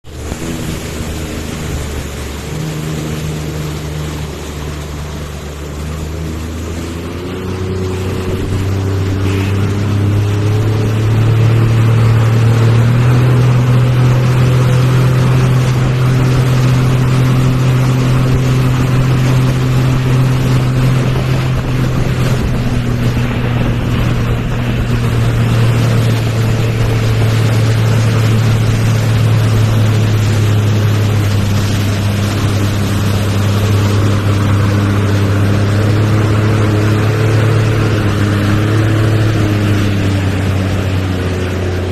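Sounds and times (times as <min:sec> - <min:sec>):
motorboat engine: 0:00.0 - 0:41.9
rushing water: 0:00.0 - 0:41.9
wind noise: 0:00.0 - 0:41.9.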